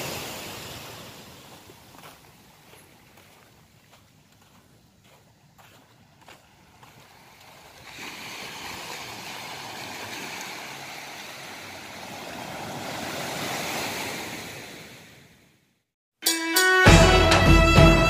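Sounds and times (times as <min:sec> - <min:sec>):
small waves on sandy shore: 0:00.0 - 0:15.5.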